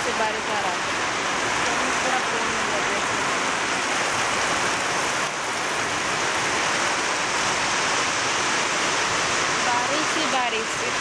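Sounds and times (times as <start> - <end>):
heavy rain on concrete and grass: 0.0 - 11.0.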